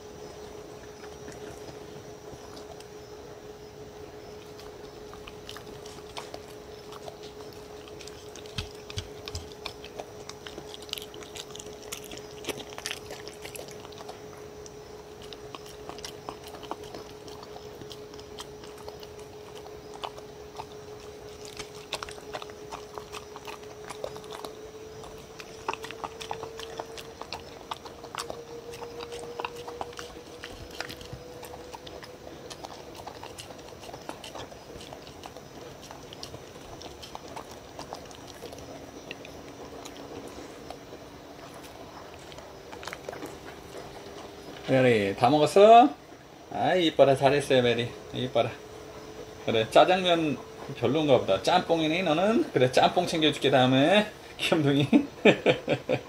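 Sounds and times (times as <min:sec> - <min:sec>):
dog eating from wooden bowl: 0:00.0 - 0:54.6
faint steady hum: 0:00.0 - 0:56.0.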